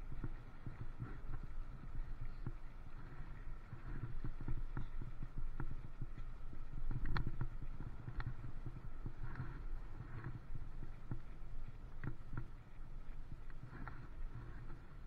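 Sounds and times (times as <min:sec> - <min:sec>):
bicycle rattling and knocking: 0:00.0 - 0:15.0
low rumble of tyres: 0:00.0 - 0:15.0.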